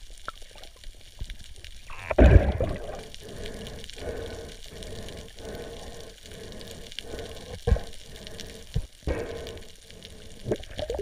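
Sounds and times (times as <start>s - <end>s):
underwater crackling hiss: 0.0s - 11.0s.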